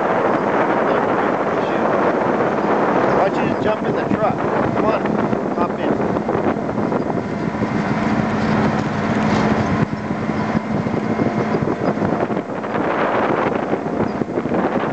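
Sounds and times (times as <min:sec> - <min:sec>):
road and tyre noise: 0:00.0 - 0:14.9
truck engine hum: 0:00.0 - 0:14.9
wind buffeting microphone: 0:00.0 - 0:14.9.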